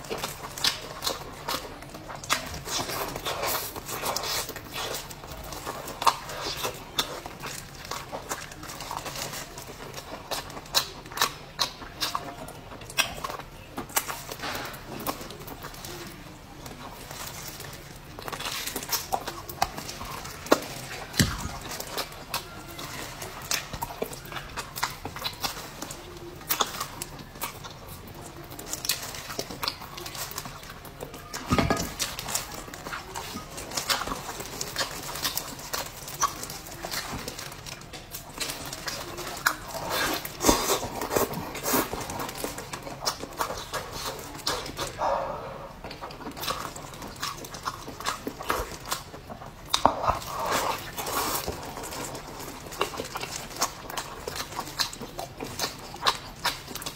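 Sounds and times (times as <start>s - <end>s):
chewing and lip-smacking: 0.0s - 56.9s.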